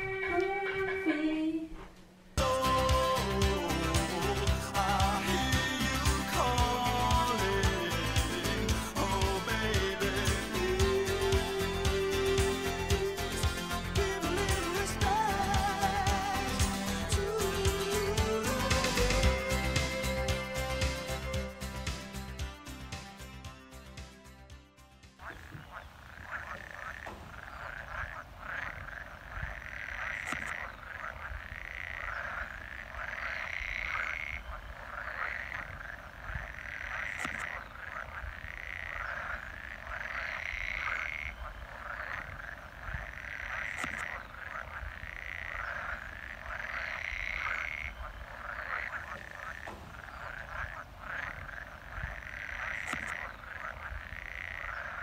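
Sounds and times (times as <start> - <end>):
chorus of frogs croaking: 2.4 - 21.5, 25.2 - 55.0.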